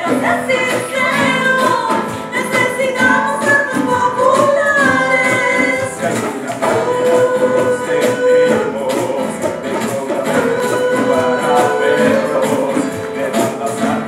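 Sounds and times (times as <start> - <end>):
acoustic guitar: 0.0 - 14.0
voices singing: 0.0 - 14.0.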